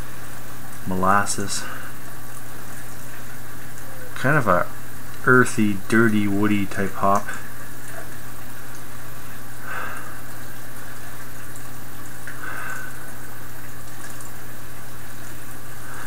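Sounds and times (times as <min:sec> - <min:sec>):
low electrical hum: 0:00.0 - 0:16.0
steady hiss: 0:00.0 - 0:16.0.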